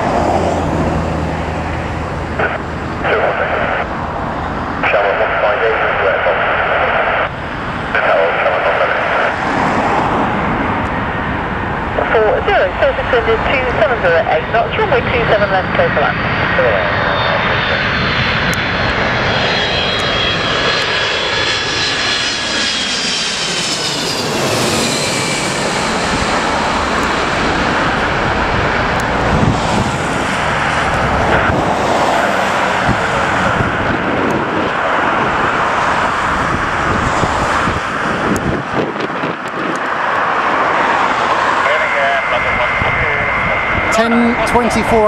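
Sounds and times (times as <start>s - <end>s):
jet engine whine: 0.0s - 45.0s
jet rumble: 0.0s - 45.0s.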